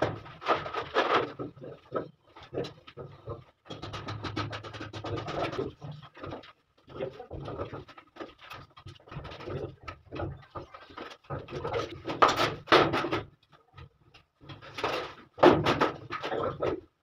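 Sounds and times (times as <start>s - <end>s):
knocks and scrapes of handling: 0.0s - 17.0s.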